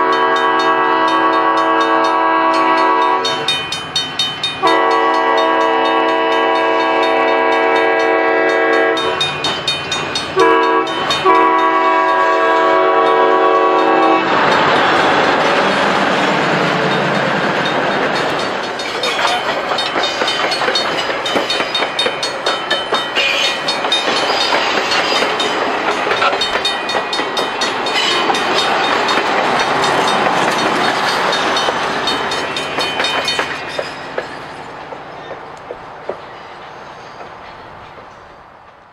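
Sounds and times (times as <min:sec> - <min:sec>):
train wheels clattering over rails: 0:00.1 - 0:38.9.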